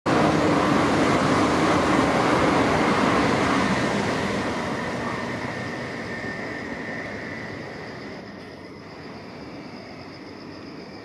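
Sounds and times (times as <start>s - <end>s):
train running past: 0.1s - 11.0s.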